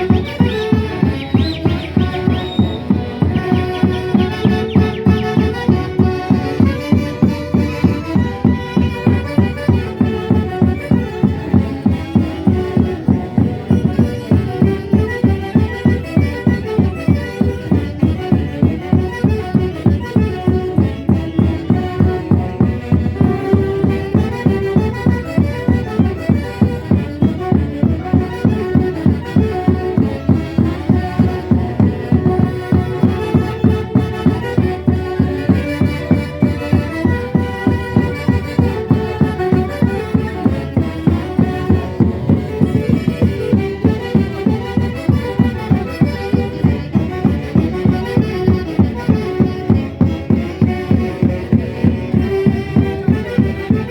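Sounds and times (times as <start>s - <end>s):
orchestra playing dance music: 0.0s - 53.9s.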